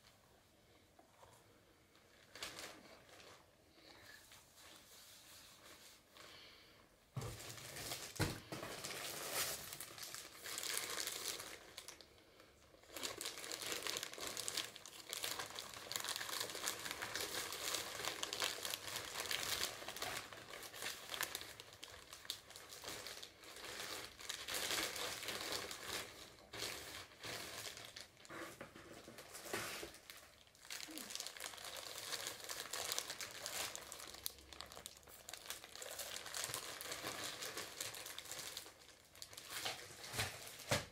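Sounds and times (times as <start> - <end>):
plastic bags crinkling: 1.2 - 3.6, 7.2 - 40.9.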